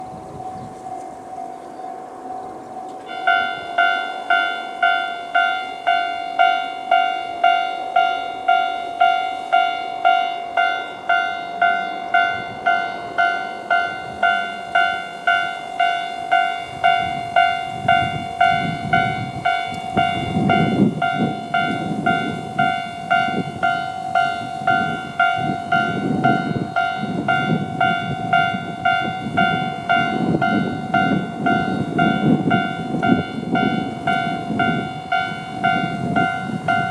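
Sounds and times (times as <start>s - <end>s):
diesel railcar rumble: 0.0s - 36.9s
level crossing warning bell: 0.0s - 36.9s.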